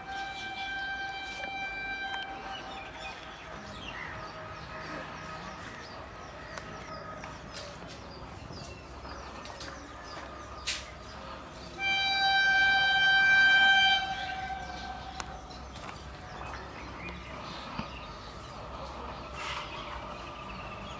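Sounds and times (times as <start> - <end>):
faint outdoor background: 0.0 - 20.9.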